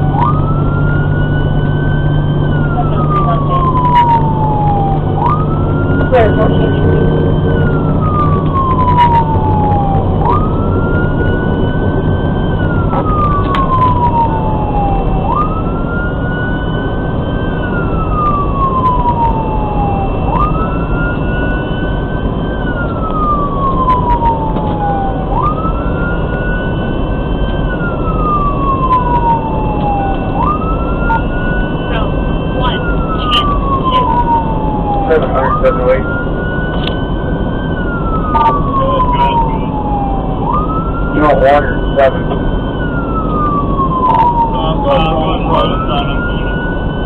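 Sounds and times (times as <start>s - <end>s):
engine and road noise: 0.0s - 47.0s
fire engine siren wailing: 0.0s - 47.0s.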